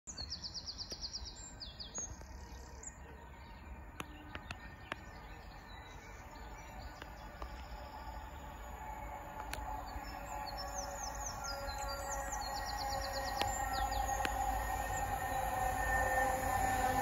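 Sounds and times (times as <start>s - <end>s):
songbird chirping: 0.1s - 17.0s
faint low rumble: 1.0s - 17.0s.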